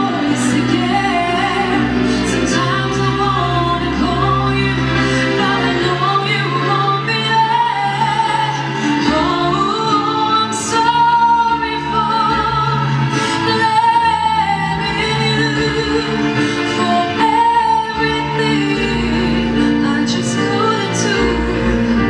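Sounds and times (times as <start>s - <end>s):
woman singing into microphone: 0.0s - 22.0s.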